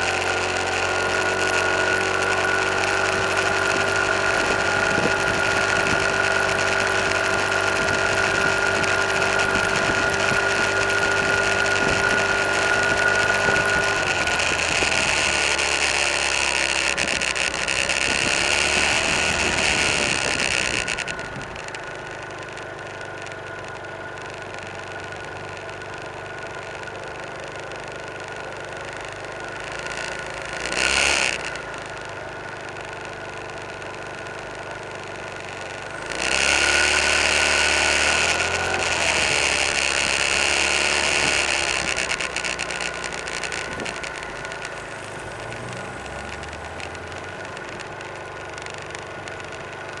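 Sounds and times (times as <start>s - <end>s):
car engine: 0.0s - 50.0s
road noise inside car: 0.0s - 50.0s.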